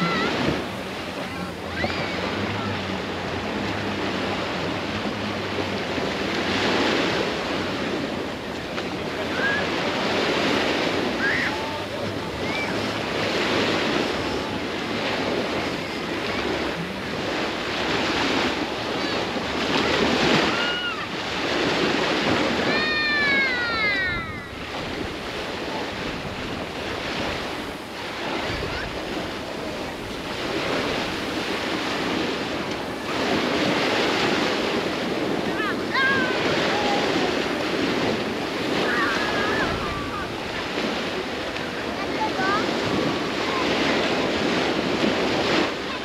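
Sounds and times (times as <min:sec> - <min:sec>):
surf breaking on beach: 0:00.0 - 0:46.0.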